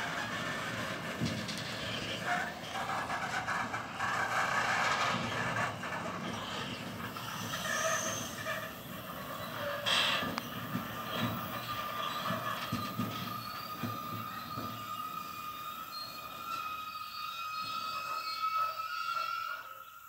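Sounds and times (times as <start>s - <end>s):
high wheel squeal: 0.0s - 20.0s
train wheels rumbling on rail: 0.0s - 20.0s.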